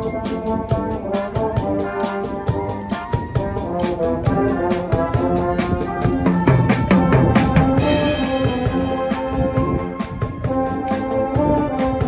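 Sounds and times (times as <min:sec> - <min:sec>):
brass band playing: 0:00.0 - 0:12.0
drum kit steady beat: 0:00.0 - 0:12.0.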